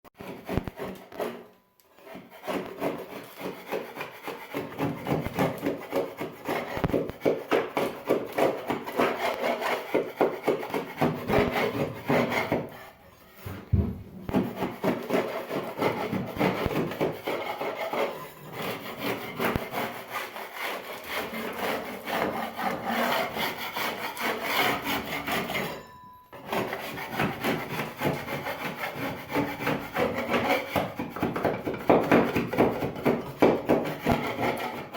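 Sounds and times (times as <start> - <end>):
paint scraper scraping: 0.2 - 25.8, 26.4 - 34.9.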